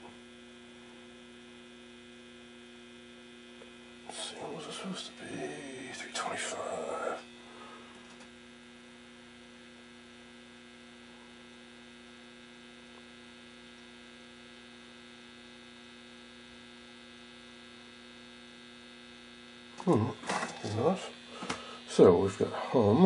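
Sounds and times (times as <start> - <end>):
radio speaker electrical hum: 0.0 - 23.0.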